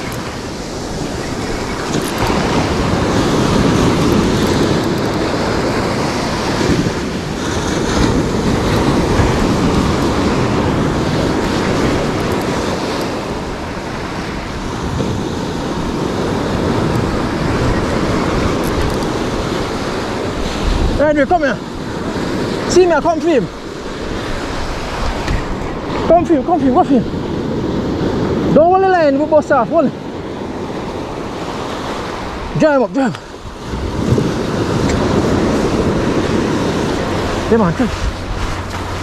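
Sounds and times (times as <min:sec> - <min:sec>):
surf washing on shore: 0:00.0 - 0:39.0
wind buffeting microphone: 0:00.0 - 0:39.0.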